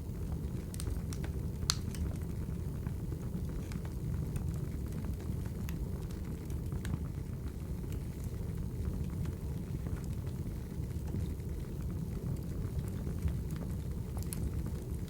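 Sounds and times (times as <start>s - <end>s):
fire crackles and pops: 0.0s - 15.0s
low rumble of burning logs: 0.0s - 15.0s.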